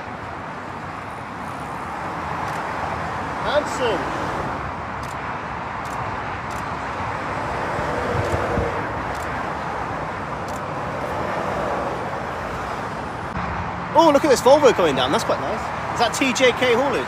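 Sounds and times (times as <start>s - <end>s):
motorway traffic rushing: 0.0s - 17.0s.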